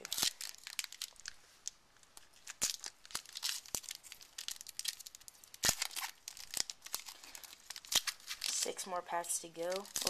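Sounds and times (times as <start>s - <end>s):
foil wrapper tearing and crinkling: 0.0s - 10.0s.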